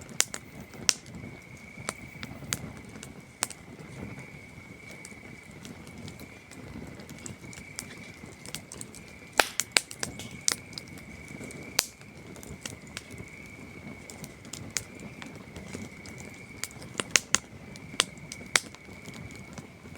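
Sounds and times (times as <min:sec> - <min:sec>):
campfire crackling and popping: 0:00.0 - 0:19.9
crickets trilling: 0:00.0 - 0:19.9.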